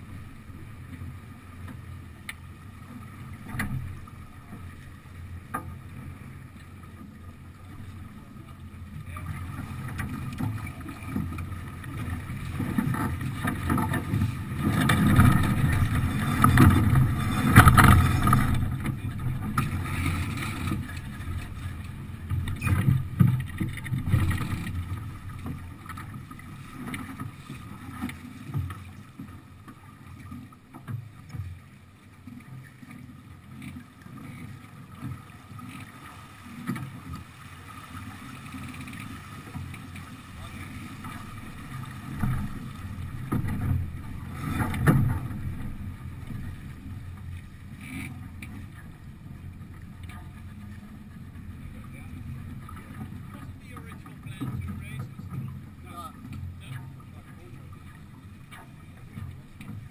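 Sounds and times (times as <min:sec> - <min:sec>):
water rushing along a hull: 0:00.0 - 0:59.9.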